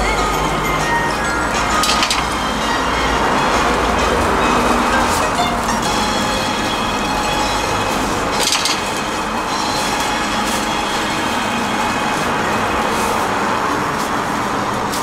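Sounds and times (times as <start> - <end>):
street food stall hiss and rumble: 0.0 - 15.0.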